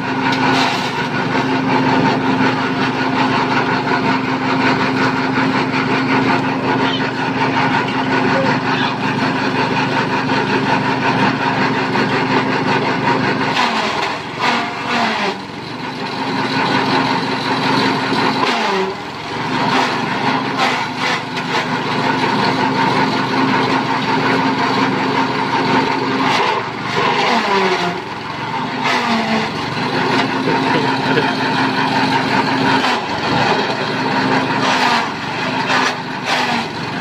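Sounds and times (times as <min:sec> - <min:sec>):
forage chopper engine running: 0:00.0 - 0:37.0.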